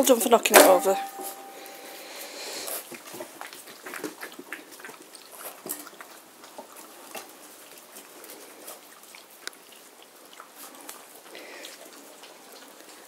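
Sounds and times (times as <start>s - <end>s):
puppies lapping from metal bowl: 0.0s - 13.0s.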